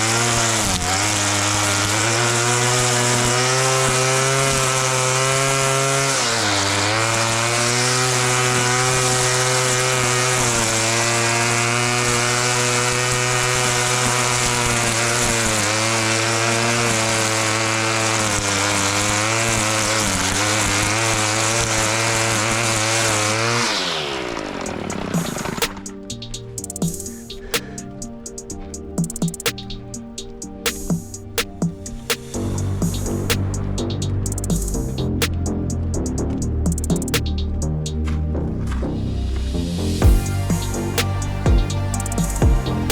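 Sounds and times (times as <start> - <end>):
lawn mower engine revving: 0.0 - 42.9.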